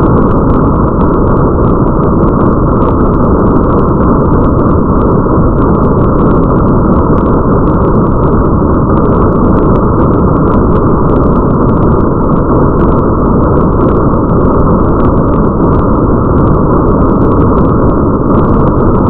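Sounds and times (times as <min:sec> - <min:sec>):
deep rumble: 0:00.0 - 0:19.0
faint raindrop ticks: 0:00.0 - 0:19.0
muffled rain: 0:00.0 - 0:19.0.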